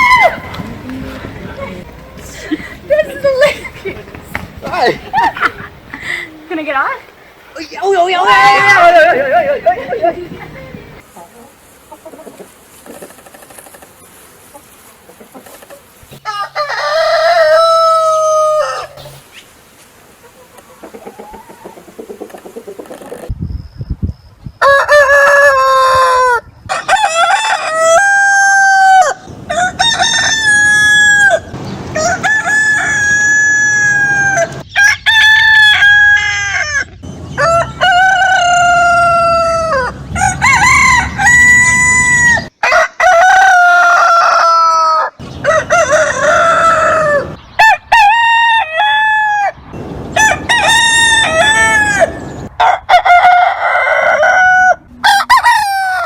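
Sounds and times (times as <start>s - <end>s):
roosters crowing: 0.0s - 6.9s, 7.6s - 23.3s, 24.6s - 56.0s.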